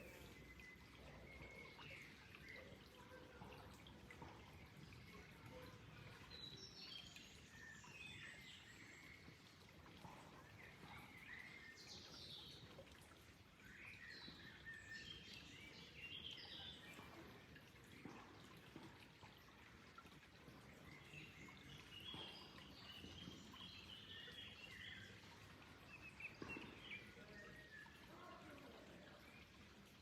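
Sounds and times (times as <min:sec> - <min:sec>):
faint birdsong: 0:00.0 - 0:30.0
flowing water: 0:00.0 - 0:30.0.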